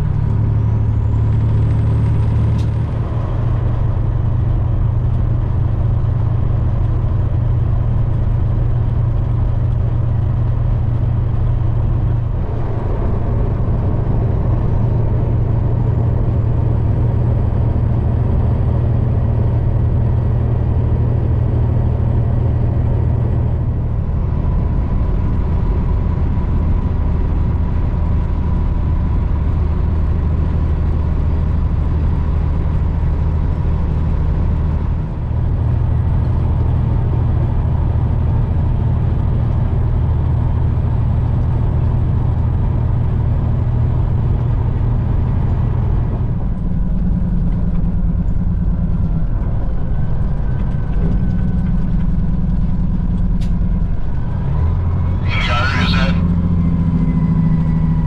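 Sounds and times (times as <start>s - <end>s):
diesel truck engine hum: 0.0s - 58.0s
road noise: 0.0s - 58.0s.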